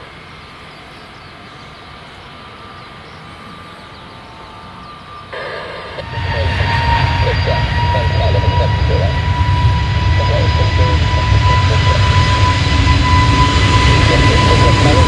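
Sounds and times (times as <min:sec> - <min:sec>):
jet airliner engines roaring: 0:00.0 - 0:15.0.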